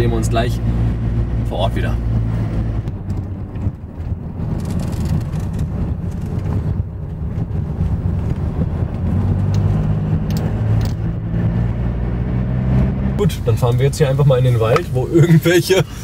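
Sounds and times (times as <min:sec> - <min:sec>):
car engine and tyre drone: 0:00.0 - 0:16.0.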